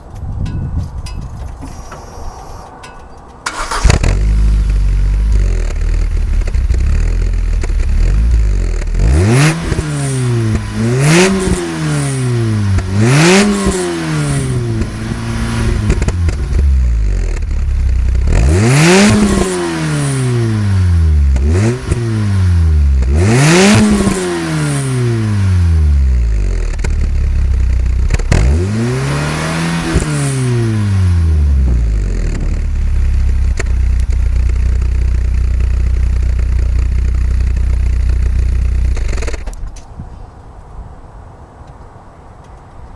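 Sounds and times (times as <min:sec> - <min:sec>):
car engine starting and revving: 0:03.4 - 0:39.6.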